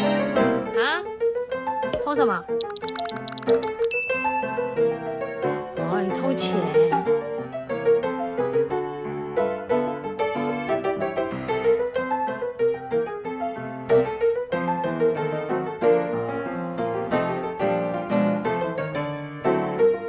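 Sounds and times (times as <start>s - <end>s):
light piano melody: 0.0s - 20.0s.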